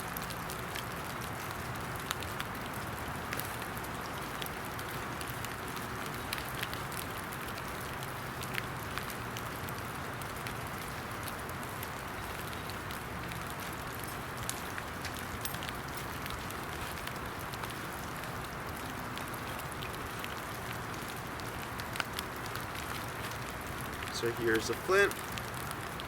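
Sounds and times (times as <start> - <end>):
rain falling: 0.0 - 26.0
raindrops clicking close by: 0.0 - 26.0.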